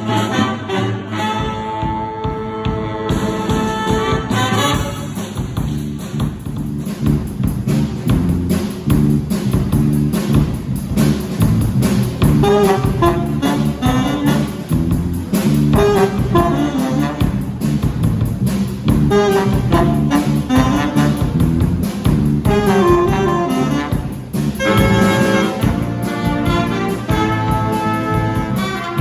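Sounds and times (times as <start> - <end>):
band playing upbeat jazz: 0.0 - 29.0.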